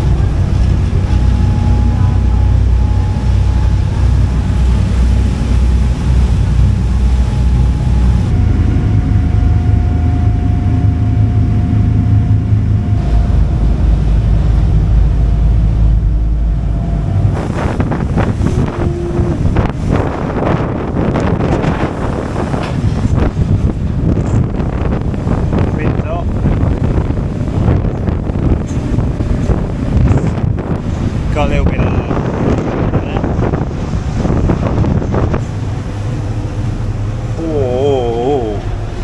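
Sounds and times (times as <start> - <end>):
wind buffeting microphone: 0.0 - 37.4
ferry engines droning: 0.0 - 39.0
rushing water: 0.0 - 39.0
steady engine whine: 0.0 - 39.0.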